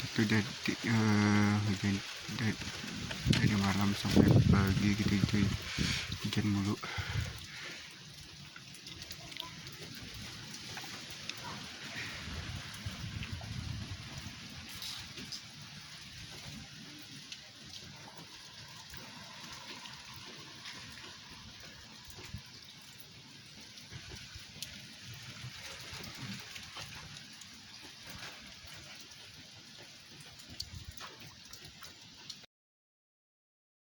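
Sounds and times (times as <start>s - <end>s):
steady rain falling: 0.0s - 32.5s.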